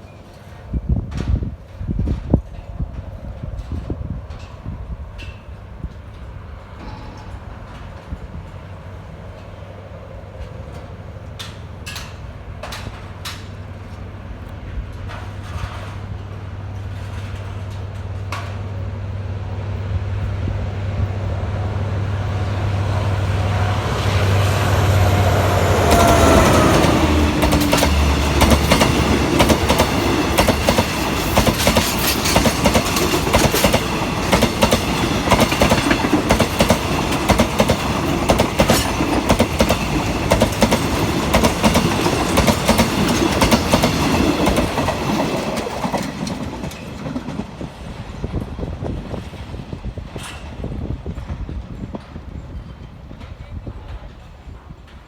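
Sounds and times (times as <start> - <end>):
train wheels clicking over rail joints: 0.0 - 20.2, 21.2 - 55.0
diesel locomotive engine drone: 0.0 - 55.0.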